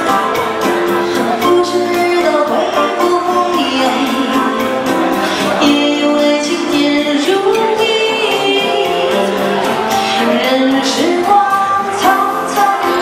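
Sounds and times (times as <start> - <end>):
instrumental accompaniment: 0.0 - 13.0
woman singing into microphone: 0.0 - 13.0.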